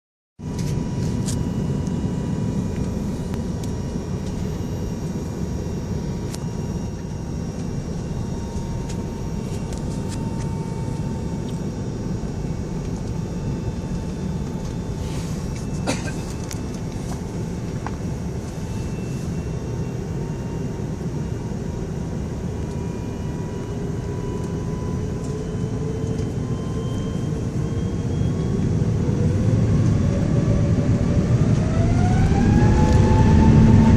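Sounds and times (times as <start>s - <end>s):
jet engines running: 0.4s - 33.9s.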